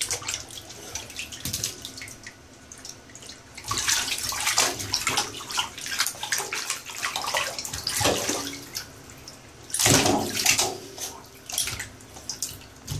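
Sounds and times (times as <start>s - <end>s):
dog splashing in bathwater: 0.0s - 12.9s.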